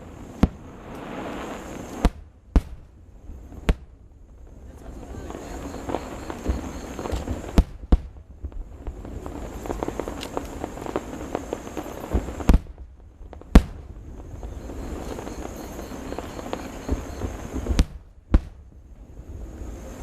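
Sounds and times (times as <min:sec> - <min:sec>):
fireworks crackle: 0:00.0 - 0:20.0
fireworks loud bangs: 0:00.0 - 0:20.0.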